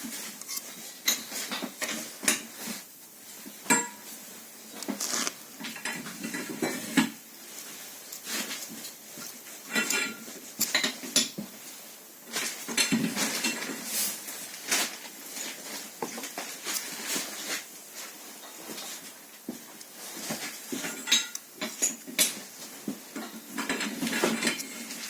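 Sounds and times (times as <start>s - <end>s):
metal tools clinking and scraping: 0.2s - 2.6s, 5.0s - 11.4s, 12.3s - 19.2s, 19.8s - 25.0s.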